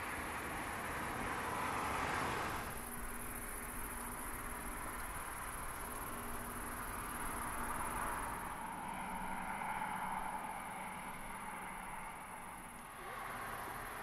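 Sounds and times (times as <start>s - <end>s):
vehicle hum: 0.0s - 14.0s.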